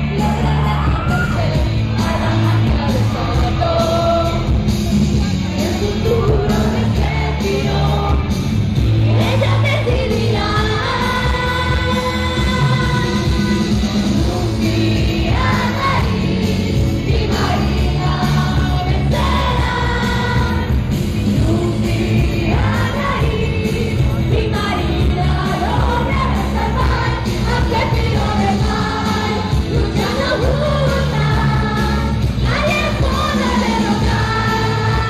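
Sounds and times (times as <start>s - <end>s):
singers singing together: 0.0s - 4.8s, 5.4s - 35.0s
live rock band playing: 0.0s - 30.2s.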